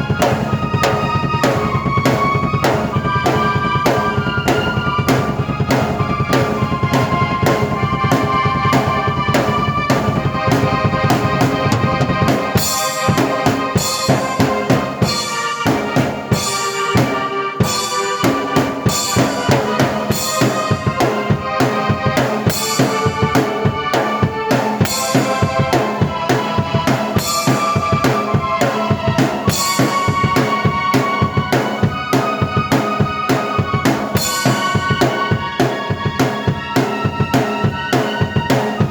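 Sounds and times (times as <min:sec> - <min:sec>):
drum kit beat: 0:00.0 - 0:38.9
keyboard chords and melody: 0:00.0 - 0:38.9.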